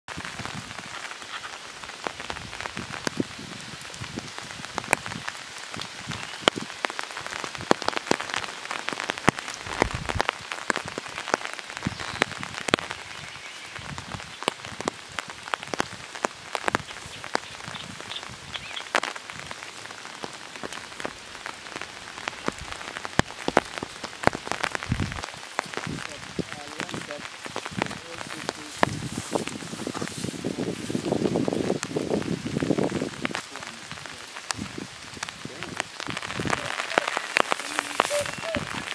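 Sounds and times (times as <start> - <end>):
light rain hissing: 0.1 - 38.9
raindrop impacts: 0.1 - 38.9.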